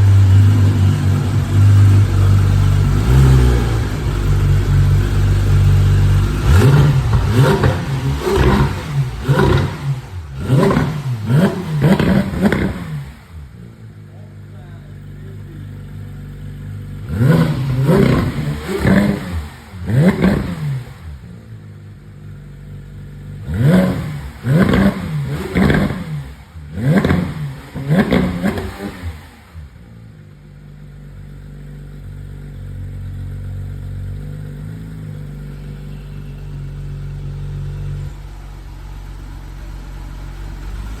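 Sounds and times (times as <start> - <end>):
car engine idling: 0.0 - 41.0
car engine revving: 0.0 - 41.0.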